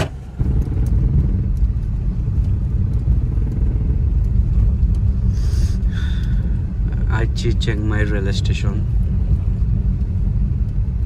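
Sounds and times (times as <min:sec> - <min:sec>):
car interior rumble: 0:00.0 - 0:11.0
wind buffeting microphone: 0:00.0 - 0:11.0.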